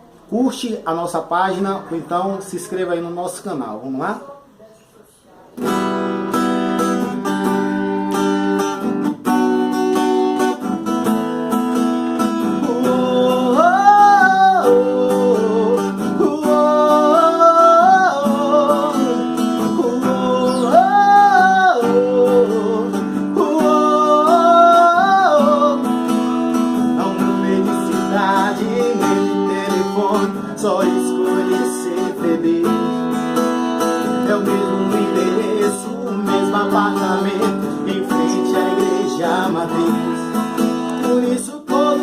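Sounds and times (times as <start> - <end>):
acoustic guitar chords: 5.6 - 42.0
wordless vocal melody: 5.8 - 42.0.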